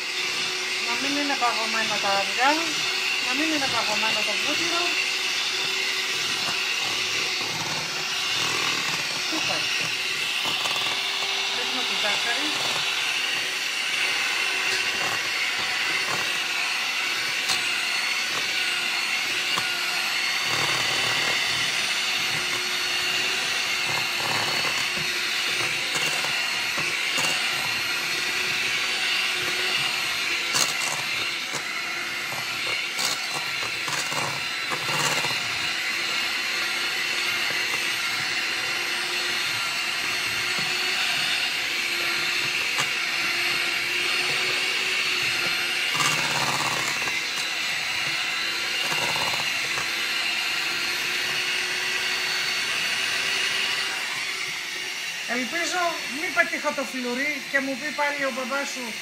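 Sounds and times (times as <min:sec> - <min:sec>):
electric mixer running: 0:00.0 - 0:59.0.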